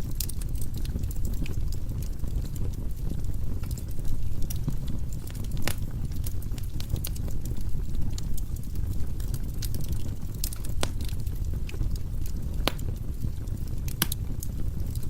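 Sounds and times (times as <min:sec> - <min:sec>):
firewood burning in fireplace: 0:00.0 - 0:15.0
logs crackling and popping: 0:00.0 - 0:15.0.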